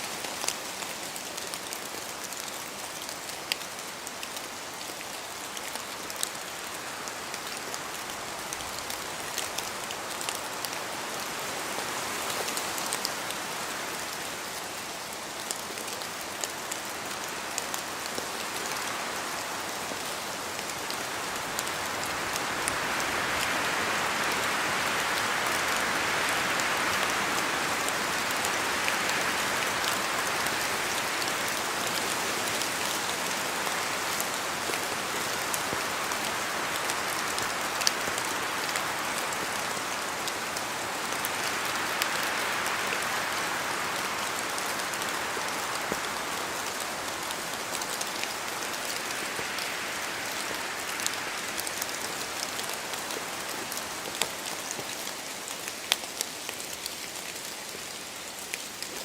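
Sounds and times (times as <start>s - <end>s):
raindrops ticking on branches: 0.0s - 59.0s
wind rushing through trees: 0.0s - 59.0s.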